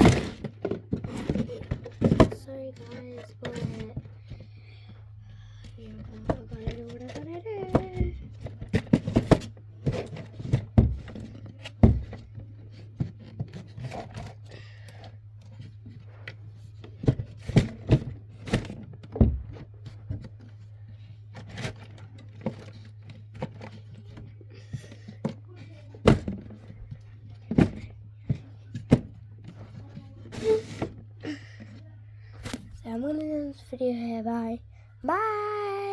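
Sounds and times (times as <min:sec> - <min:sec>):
plastic toys being handled: 0:00.0 - 0:04.6, 0:05.7 - 0:33.3
steady low hum: 0:00.0 - 0:35.9.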